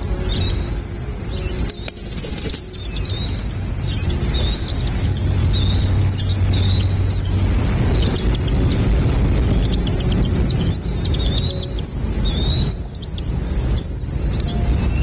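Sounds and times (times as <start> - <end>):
birds whistling: 0.0 - 15.0
steady low rumble: 0.0 - 15.0.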